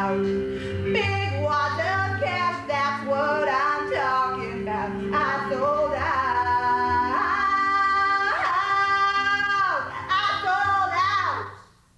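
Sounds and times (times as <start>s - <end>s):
woman singing into microphone: 0.0s - 11.4s.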